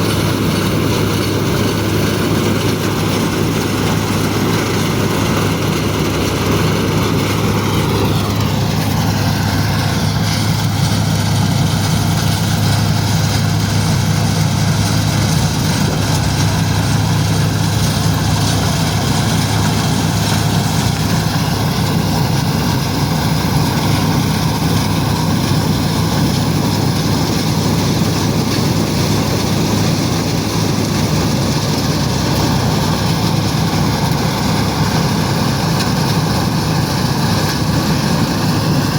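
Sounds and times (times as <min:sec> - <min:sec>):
tractor diesel engine drone: 0:00.0 - 0:38.9.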